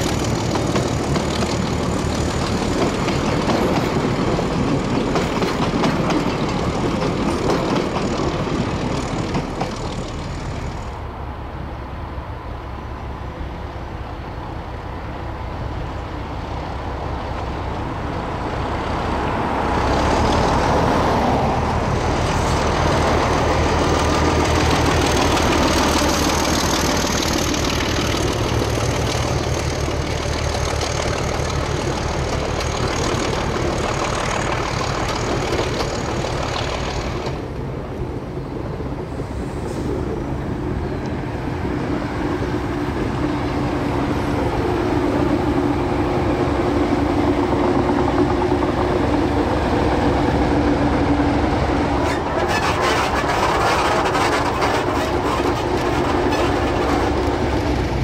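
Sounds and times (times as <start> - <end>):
diesel locomotive engine: 0.0 - 58.0
train carriages rolling on rails: 0.0 - 58.0.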